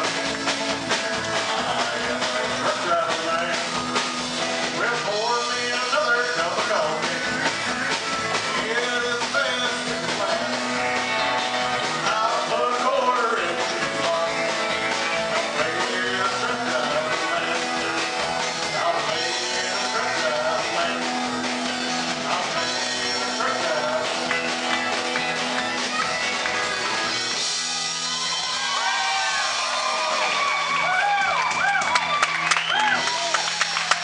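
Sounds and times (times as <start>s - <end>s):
pedal steel guitar: 0.0s - 32.2s
drum kit beat: 0.0s - 34.0s
electric guitar: 0.0s - 34.0s
keyboard: 0.0s - 34.0s.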